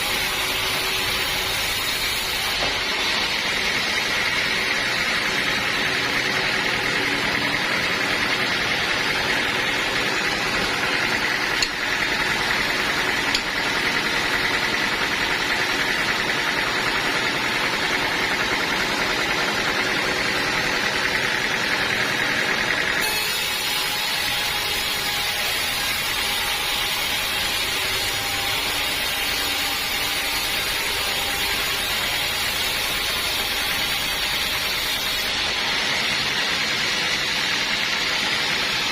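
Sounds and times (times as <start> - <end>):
saw cutting whine: 0.0 - 38.9
sawmill machinery drone: 0.0 - 38.9.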